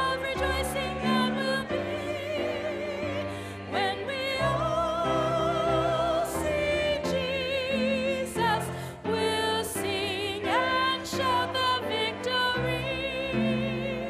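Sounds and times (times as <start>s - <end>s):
woman singing a hymn: 0.0s - 14.0s.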